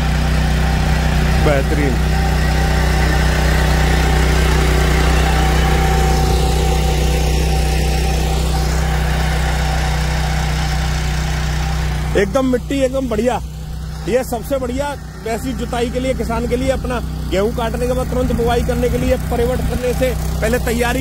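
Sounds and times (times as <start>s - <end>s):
power weeder engine under load: 0.0s - 21.0s.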